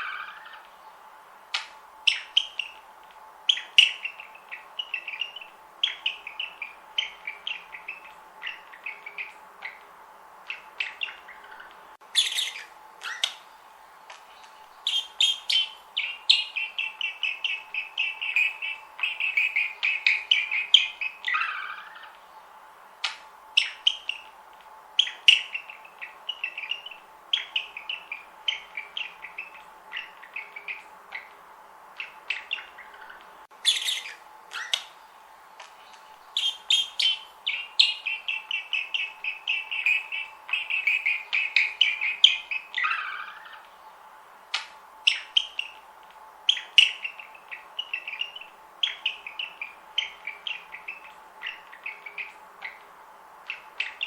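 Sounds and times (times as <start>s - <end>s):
budgerigars chirping and warbling: 0.0s - 1.0s, 1.6s - 2.9s, 3.5s - 13.6s, 14.4s - 22.3s, 23.0s - 24.4s, 25.0s - 31.4s, 32.0s - 35.0s, 35.8s - 44.0s, 44.6s - 54.0s
sharp clicking bird calls: 0.0s - 54.0s.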